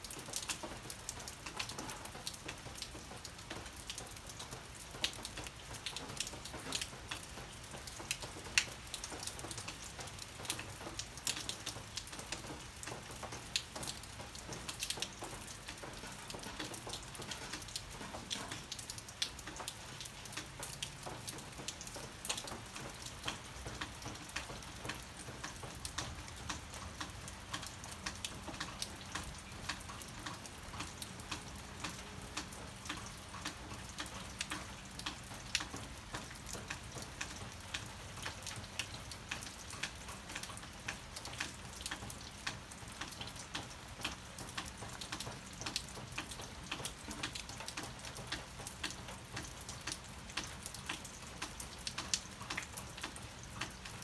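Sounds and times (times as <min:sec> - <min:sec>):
rain falling: 0:00.0 - 0:54.0
raindrops ticking on surfaces: 0:00.0 - 0:54.0.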